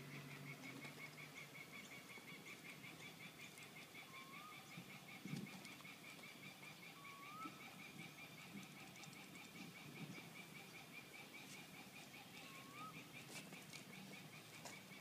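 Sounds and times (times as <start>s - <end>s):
rapid high animal chirping: 0.0s - 15.0s.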